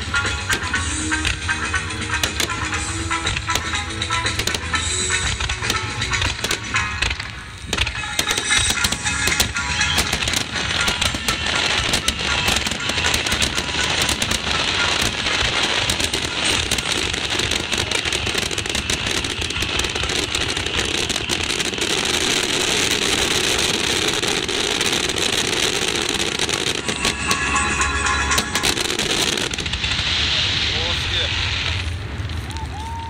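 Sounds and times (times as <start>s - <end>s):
firework shells bursting: 0.0s - 30.5s
fireworks crackling and popping: 0.0s - 33.0s.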